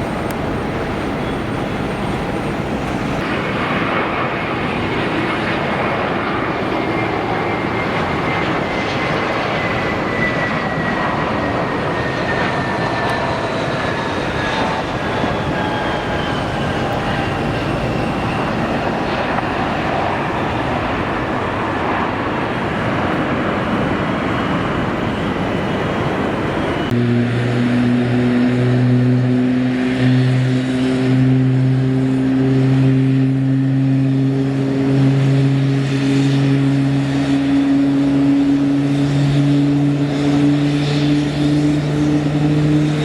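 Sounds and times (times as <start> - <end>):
airliner engines whining: 0.0 - 43.0.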